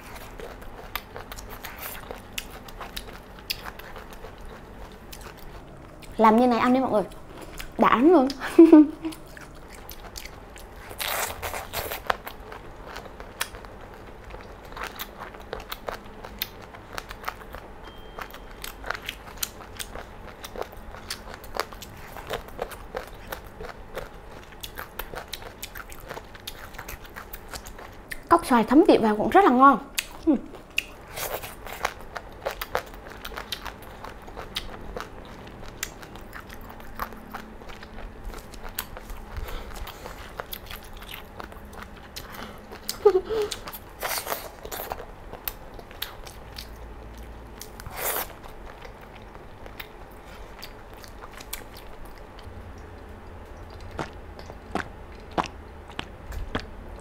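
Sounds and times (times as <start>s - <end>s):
chewing crunchy food: 0.0s - 8.4s, 9.0s - 28.3s, 30.0s - 57.0s.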